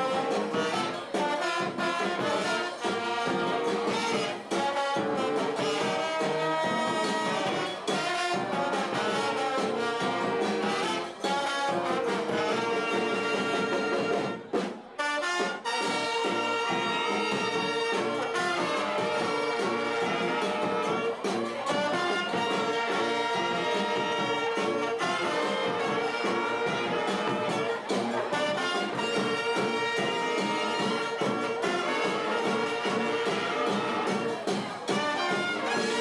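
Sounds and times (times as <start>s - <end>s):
brass band playing soul tune: 0.0s - 36.0s.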